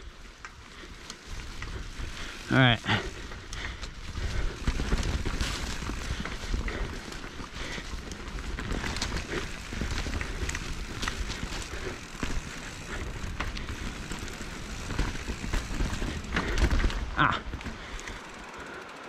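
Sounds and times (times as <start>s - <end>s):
bike tyres on rough trail: 0.0s - 19.0s.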